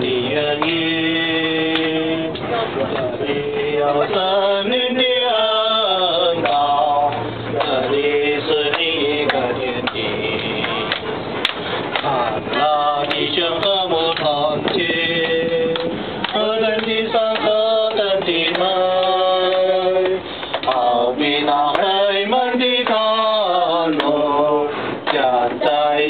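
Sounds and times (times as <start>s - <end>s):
group singing worship song: 0.0s - 26.0s.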